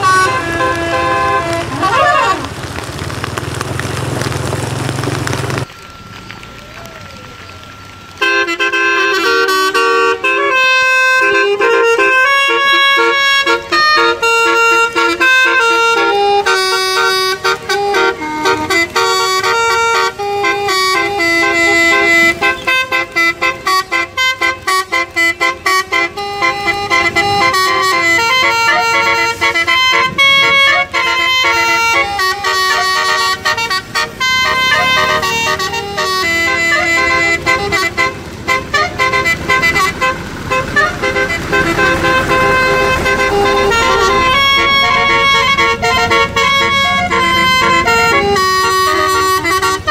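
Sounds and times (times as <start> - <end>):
bus air horn melody: 0.0 - 2.4, 8.1 - 49.9.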